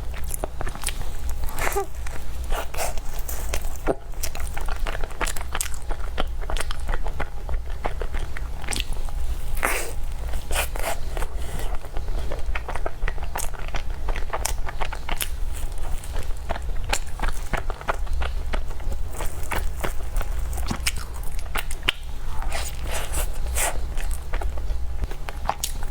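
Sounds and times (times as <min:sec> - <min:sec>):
crunchy chewing: 0:00.0 - 0:25.9.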